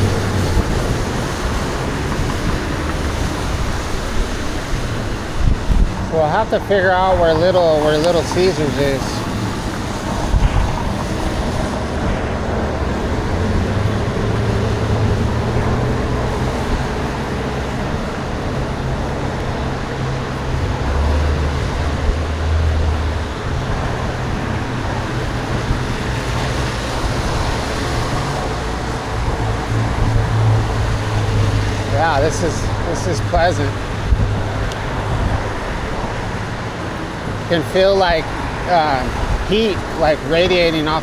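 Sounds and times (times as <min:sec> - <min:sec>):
road traffic passing: 0:00.0 - 0:41.0
wind rush on microphone: 0:00.0 - 0:41.0.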